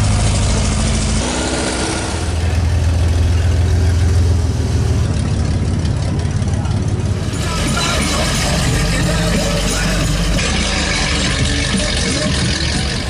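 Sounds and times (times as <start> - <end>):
car engine exhaust rumble: 0.0 - 13.0.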